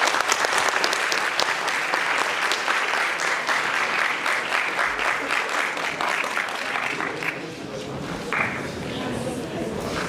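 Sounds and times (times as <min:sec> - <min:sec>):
audience applauding: 0:00.0 - 0:07.5, 0:08.3 - 0:09.3.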